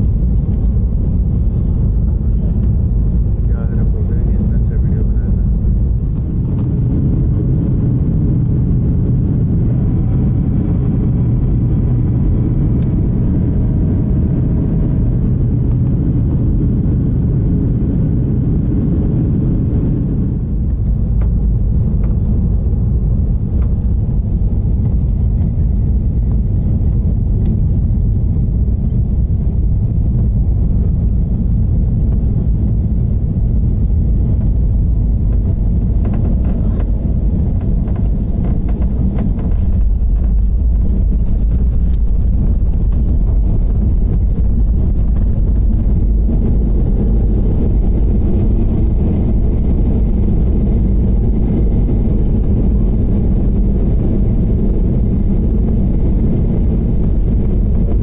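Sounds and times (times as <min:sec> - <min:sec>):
airliner engines and airflow rumble: 0:00.0 - 0:58.0.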